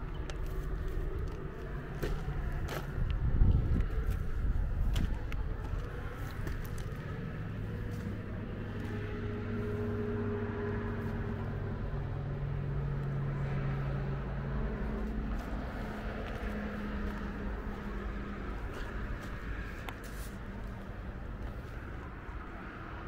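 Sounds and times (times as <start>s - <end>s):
vehicle engine hum: 0.0s - 23.0s.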